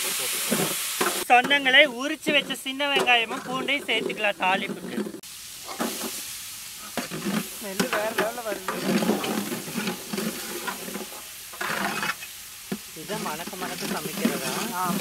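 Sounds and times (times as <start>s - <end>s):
oil sizzling in a pot: 0.0s - 15.0s
metal ladle scraping a pot: 2.2s - 6.1s, 6.8s - 15.0s.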